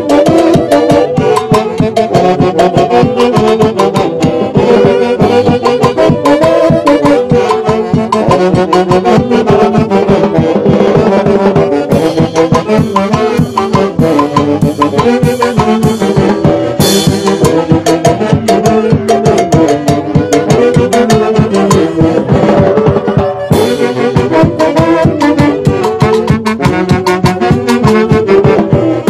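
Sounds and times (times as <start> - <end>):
brass dance music: 0.0 - 29.0
fast percussion beat: 0.0 - 29.0.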